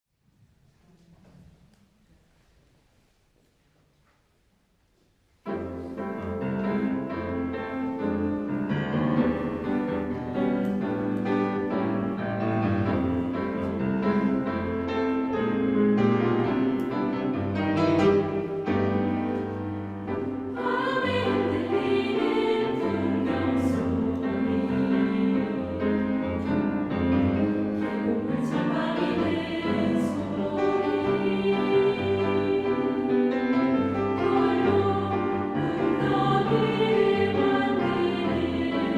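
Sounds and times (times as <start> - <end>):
choir singing: 5.6 - 38.9.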